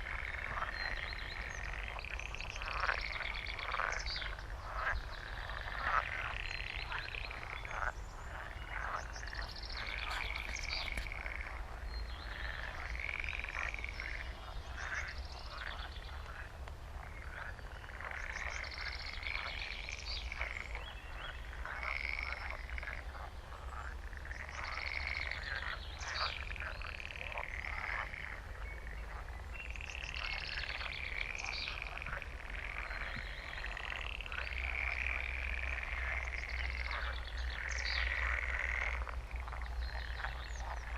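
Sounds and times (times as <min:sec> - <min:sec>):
chorus of frogs croaking: 0:00.0 - 0:40.9.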